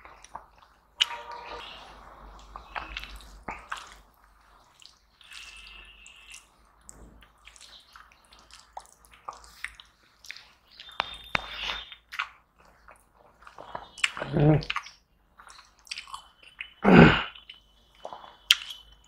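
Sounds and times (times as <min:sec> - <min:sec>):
eating sounds: 0:00.0 - 0:18.9.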